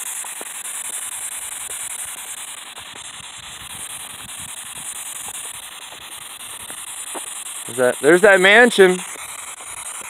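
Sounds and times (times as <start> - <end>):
faint crackles: 0.0 - 10.0
steady high hiss: 0.0 - 10.0.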